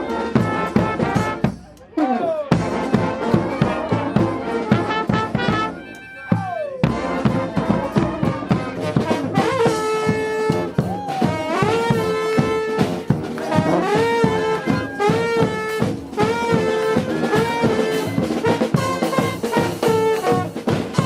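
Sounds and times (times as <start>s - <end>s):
brass band playing: 0.0s - 21.0s
steady drum beat: 0.0s - 21.0s.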